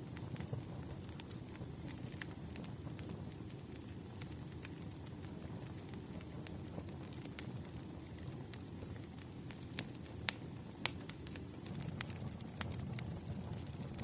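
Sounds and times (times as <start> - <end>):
firewood crackling and popping: 0.0 - 14.0
wood fire rumbling: 0.0 - 14.0.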